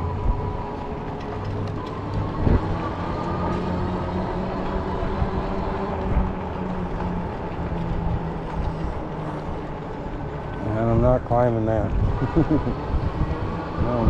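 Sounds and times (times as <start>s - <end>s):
electric motor whine: 0.0s - 14.0s
tyres rumbling: 0.0s - 14.0s.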